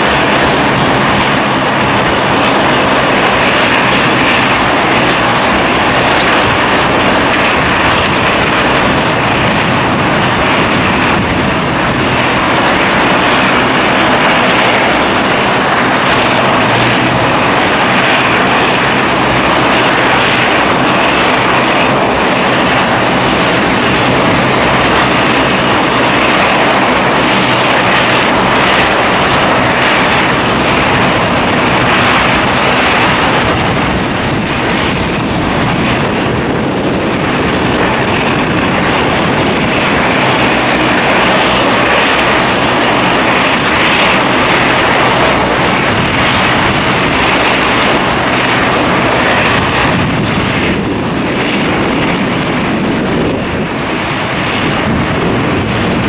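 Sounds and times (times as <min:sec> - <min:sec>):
high engine whine: 0:00.0 - 0:56.0
jet engines roaring: 0:00.0 - 0:56.0.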